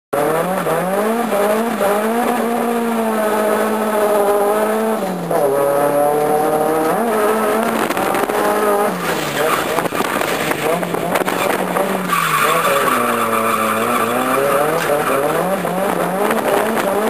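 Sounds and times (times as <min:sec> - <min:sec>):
car engine revving: 0:00.1 - 0:17.0.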